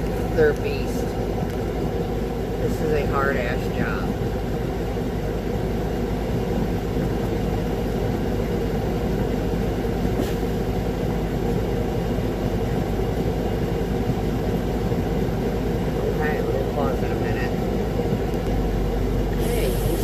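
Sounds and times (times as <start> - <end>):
heavy diesel engines rumbling: 0.0 - 20.0.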